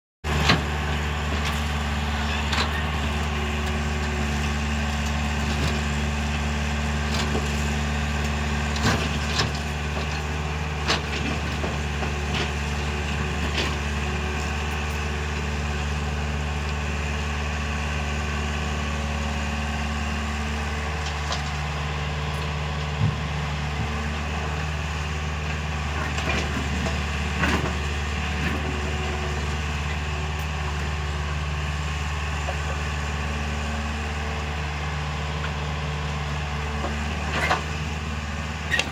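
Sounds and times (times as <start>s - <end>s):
excavator diesel engine running: 0.2s - 38.9s.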